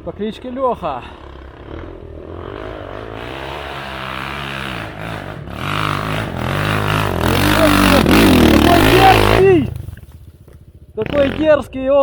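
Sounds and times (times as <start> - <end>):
motorcycle engine revving hard: 1.0 - 11.6.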